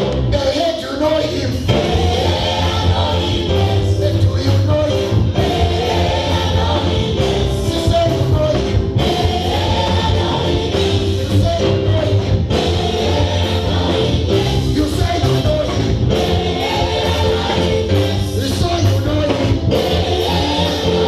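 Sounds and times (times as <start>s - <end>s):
bass line: 0.0s - 21.0s
guitar: 0.0s - 21.0s.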